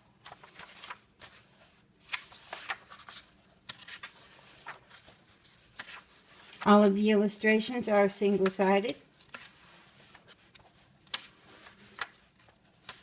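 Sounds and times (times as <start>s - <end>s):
paper pages rustling: 0.0s - 7.0s, 8.0s - 13.0s.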